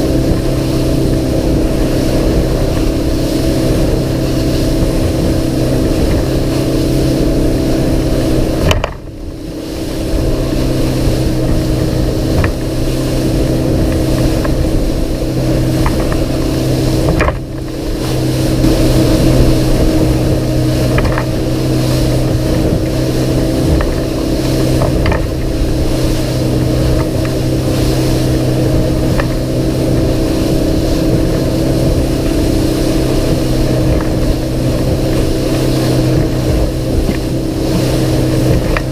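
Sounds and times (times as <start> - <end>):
outboard engine running: 0.0 - 38.9
rushing water: 0.0 - 38.9
wind noise: 0.0 - 38.9.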